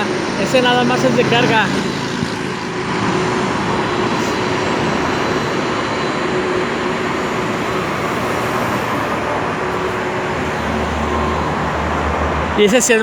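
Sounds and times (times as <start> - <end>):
jet engine rushing: 0.0 - 13.0.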